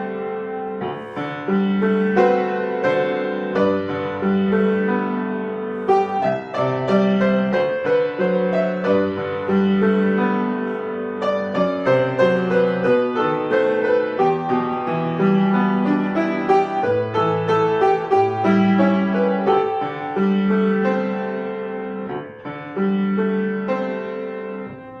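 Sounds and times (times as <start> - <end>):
solo piano piece: 0.0 - 25.0.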